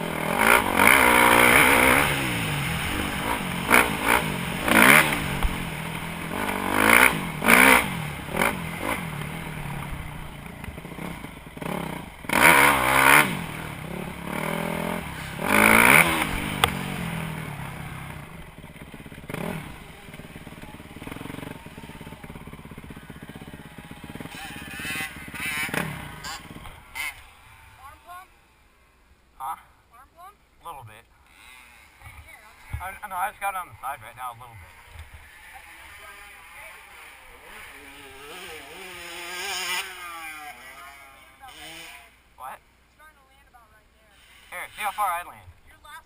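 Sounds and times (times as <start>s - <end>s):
dirt bike engine revving: 0.0s - 28.8s, 31.2s - 42.6s, 44.2s - 46.0s.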